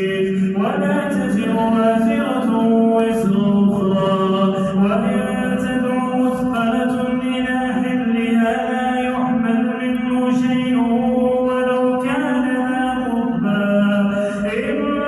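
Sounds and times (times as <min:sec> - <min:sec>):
man reciting in melodic chant: 0:00.0 - 0:15.0.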